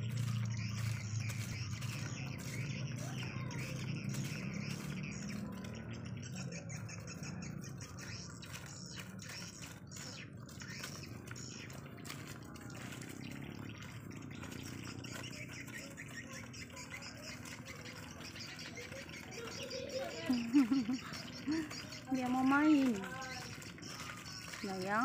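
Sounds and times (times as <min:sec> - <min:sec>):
swiftlets chirping: 0:00.0 - 0:25.0.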